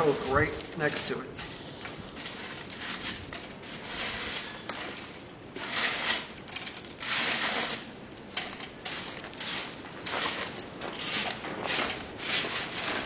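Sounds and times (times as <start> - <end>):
coke shoveled and raked in forge: 0.0 - 13.0.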